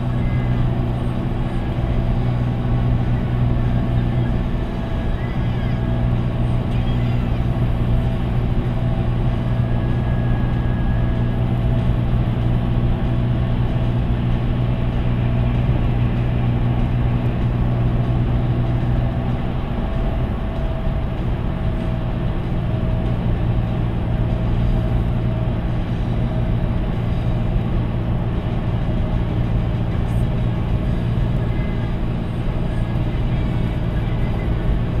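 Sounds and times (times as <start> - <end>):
engine drone inside car cabin: 0.0 - 35.0
road noise: 0.0 - 35.0.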